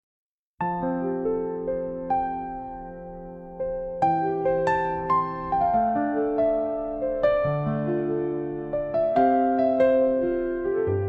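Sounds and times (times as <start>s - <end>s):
slow soft keyboard music: 0.6s - 11.0s.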